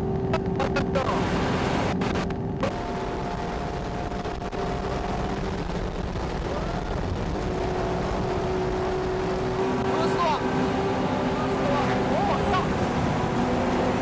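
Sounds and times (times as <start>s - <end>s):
car engine drone with whine: 0.0s - 14.0s
road noise: 0.0s - 14.0s.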